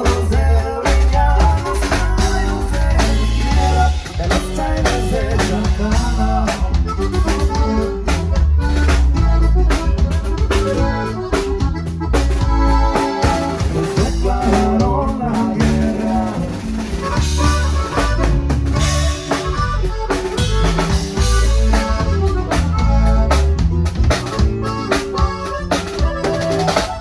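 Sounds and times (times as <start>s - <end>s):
drum kit with rimshots: 0.0s - 27.0s
live band music: 0.0s - 27.0s.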